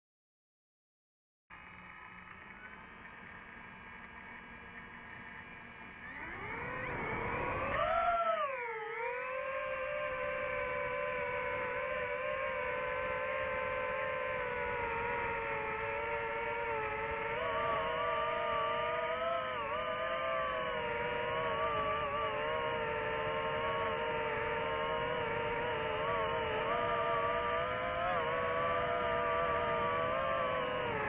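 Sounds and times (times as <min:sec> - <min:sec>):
drone motors and propellers whining: 0:01.5 - 0:31.0.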